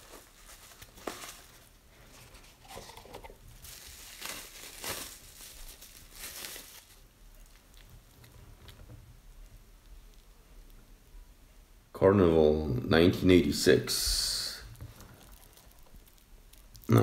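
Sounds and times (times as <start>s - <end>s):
bubble wrap crinkling: 0.0s - 10.9s, 14.2s - 17.0s.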